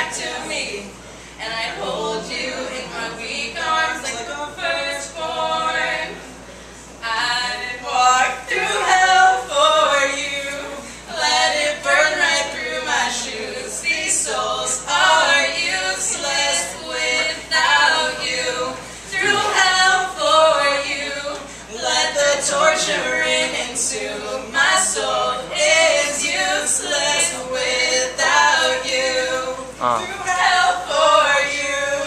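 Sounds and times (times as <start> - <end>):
man and woman singing duet: 0.0 - 6.4, 7.0 - 32.0.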